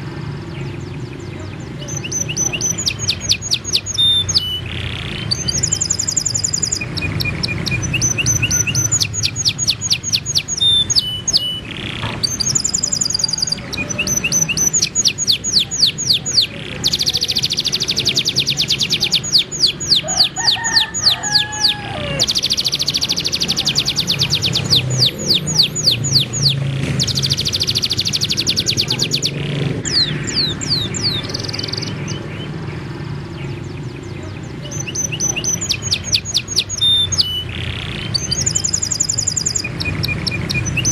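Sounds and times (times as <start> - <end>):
songbirds trilling: 0.0 - 40.9.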